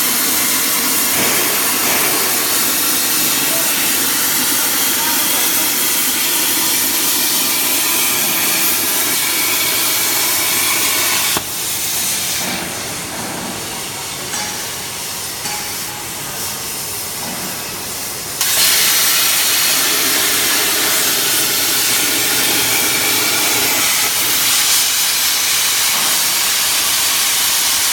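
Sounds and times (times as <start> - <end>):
plasma torch hissing: 0.0 - 13.0, 16.4 - 27.9.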